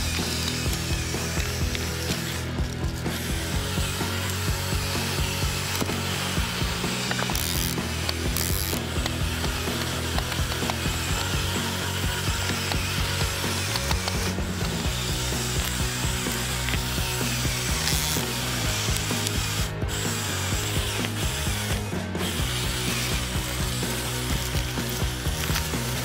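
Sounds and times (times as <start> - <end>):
toy car electric motors and gears: 0.0 - 26.0.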